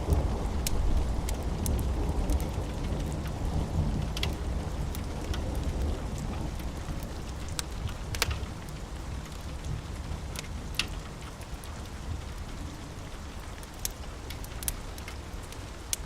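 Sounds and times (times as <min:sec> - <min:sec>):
steady rain: 0:00.0 - 0:16.0
wood fire crackling: 0:00.0 - 0:16.0.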